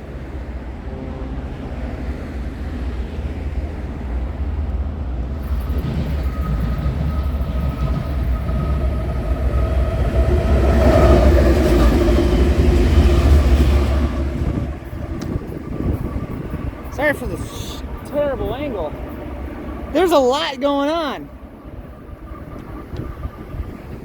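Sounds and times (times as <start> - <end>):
diesel locomotives passing: 0.0 - 24.0
engine whine: 0.0 - 24.0.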